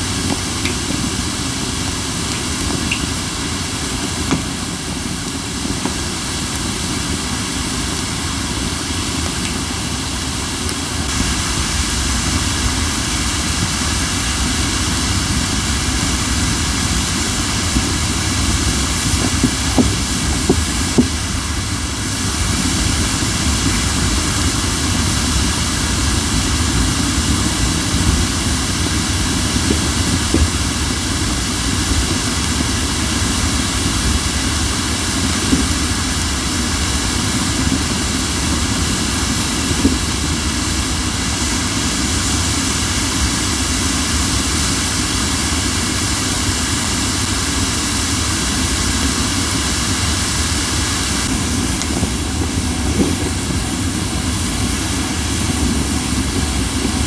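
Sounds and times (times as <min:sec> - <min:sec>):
burning wood hissing: 0:00.0 - 0:57.0
small fire pops: 0:00.0 - 0:57.0.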